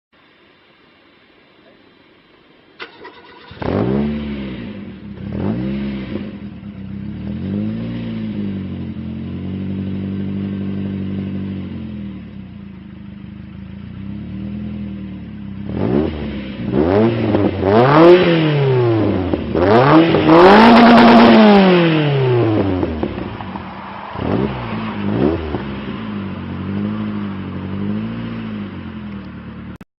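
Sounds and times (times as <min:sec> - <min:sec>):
car engine revving: 0:02.8 - 0:29.8.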